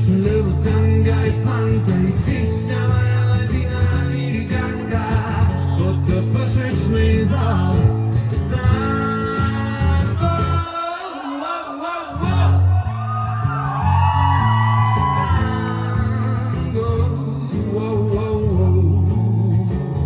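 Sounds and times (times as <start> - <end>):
person singing: 0.0 - 19.9
acoustic guitar: 0.0 - 20.0.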